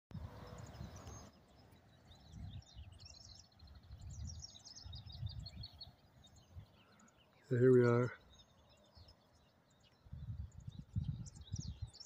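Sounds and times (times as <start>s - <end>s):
wind buffeting microphone: 0.1s - 7.0s, 8.3s - 12.0s
small birds chirping: 0.1s - 12.0s.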